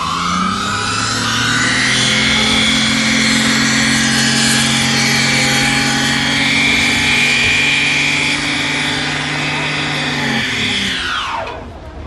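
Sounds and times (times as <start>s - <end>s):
tyres squealing on asphalt: 0.0s - 11.8s
car engine revving high: 0.0s - 11.9s.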